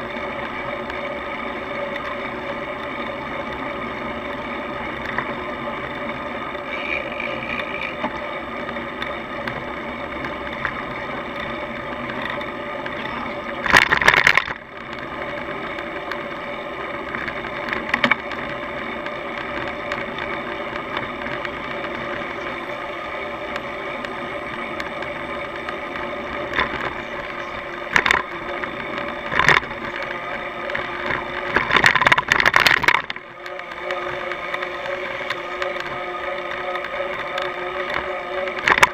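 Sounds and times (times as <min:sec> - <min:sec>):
bicycle rattling: 0:00.0 - 0:38.9
road and wind noise: 0:00.0 - 0:38.9.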